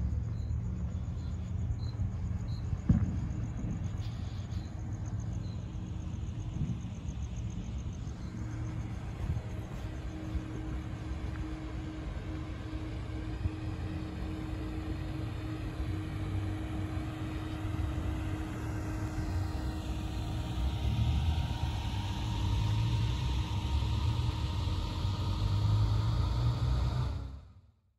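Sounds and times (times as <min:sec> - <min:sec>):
road traffic rumble: 0:00.0 - 0:27.4
faint steady hum: 0:00.0 - 0:27.8.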